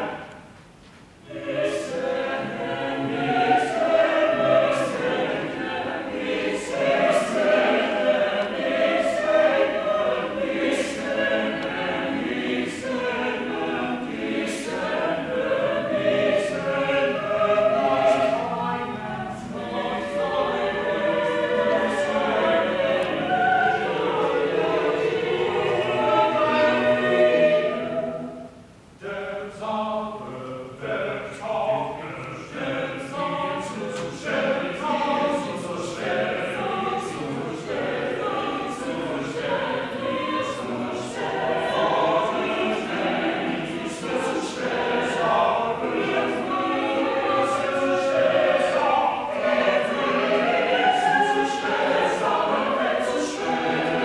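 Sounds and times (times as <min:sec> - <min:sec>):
choir singing: 0:00.0 - 0:00.5, 0:01.2 - 0:54.0.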